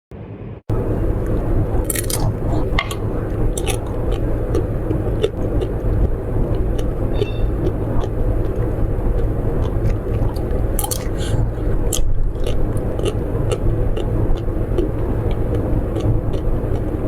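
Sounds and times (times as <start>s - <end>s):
low rumble: 0.1s - 17.0s.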